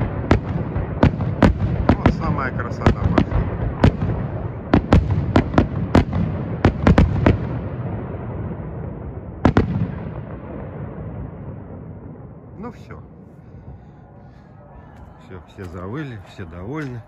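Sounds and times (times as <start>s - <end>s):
fireworks rumble: 0.0s - 17.0s.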